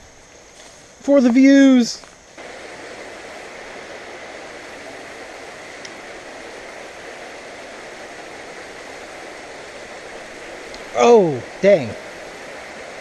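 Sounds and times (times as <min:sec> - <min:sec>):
water rushing over spillway: 0:02.4 - 0:13.0.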